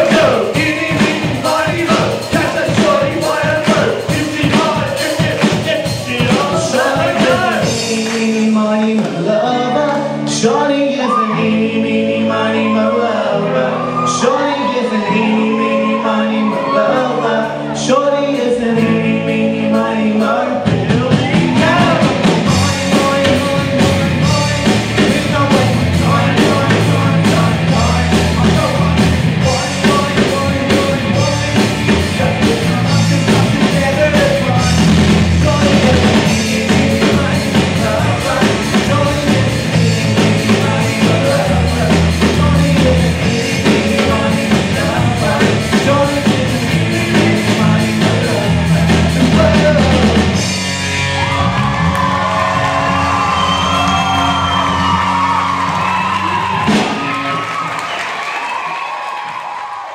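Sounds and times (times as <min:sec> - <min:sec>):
person singing: 0:00.0 - 0:50.6
live rock band playing: 0:00.0 - 0:59.6.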